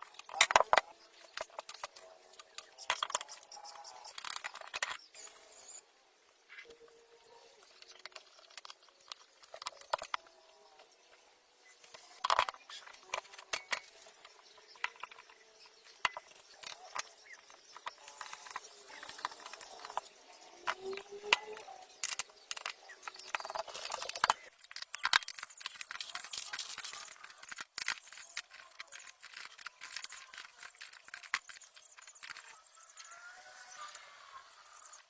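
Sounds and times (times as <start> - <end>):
clicks and clinks of small parts: 0.0 - 5.8, 6.6 - 34.0.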